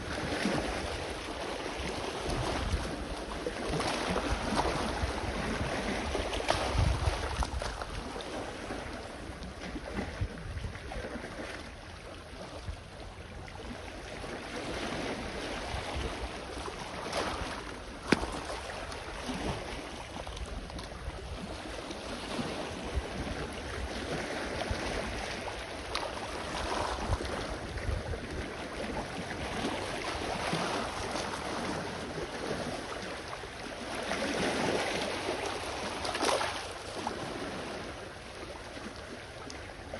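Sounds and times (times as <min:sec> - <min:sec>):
sea waves washing on shore: 0:00.0 - 0:39.9
wind rumble on microphone: 0:00.0 - 0:39.9.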